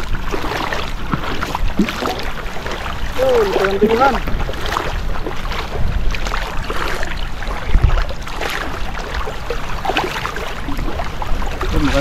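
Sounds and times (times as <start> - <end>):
water sloshing and splashing: 0.0 - 12.0
wind rumble on microphone: 0.0 - 12.0.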